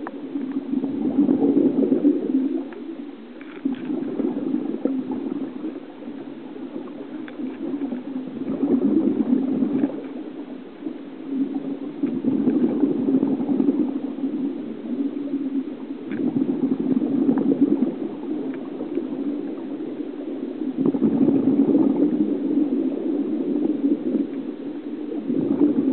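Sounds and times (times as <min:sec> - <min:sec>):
underwater bubbles gurgling: 0:00.0 - 0:25.9.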